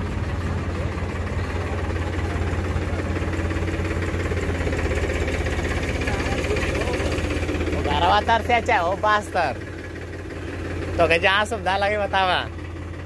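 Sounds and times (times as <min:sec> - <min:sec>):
tractor diesel engine passing: 0:00.0 - 0:13.0.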